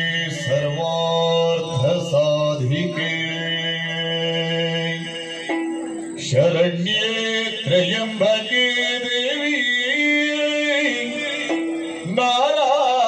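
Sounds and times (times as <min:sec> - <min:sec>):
man singing ornamented melody: 0:00.0 - 0:13.0.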